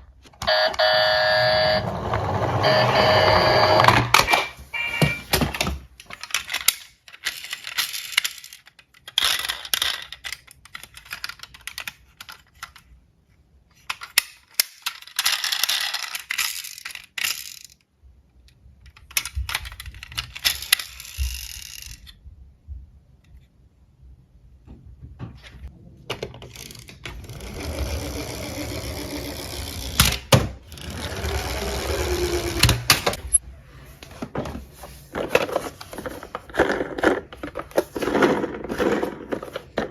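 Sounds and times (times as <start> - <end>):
toy cars clattering: 0.4 - 13.0, 13.7 - 22.2, 26.1 - 33.4, 34.2 - 39.9
toy wheels rolling and rattling: 0.5 - 12.9, 13.7 - 17.9, 18.8 - 22.2, 26.2 - 33.4, 34.7 - 39.9.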